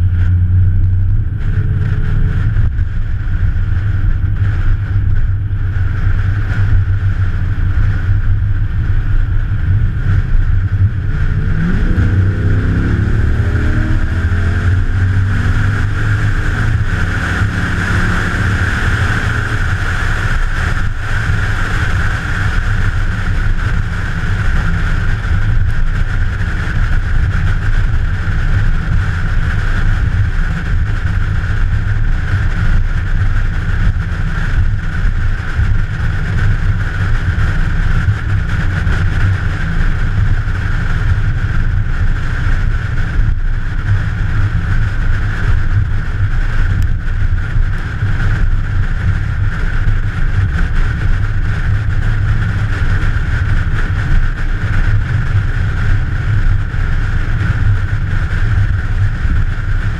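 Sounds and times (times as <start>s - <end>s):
vehicle engine running: 0.0s - 59.9s
wind noise on microphone: 0.0s - 59.9s.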